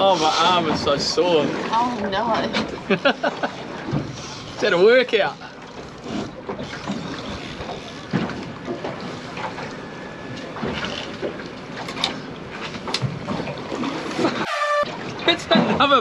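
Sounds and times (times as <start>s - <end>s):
water washing against boat hull: 0.0s - 16.0s.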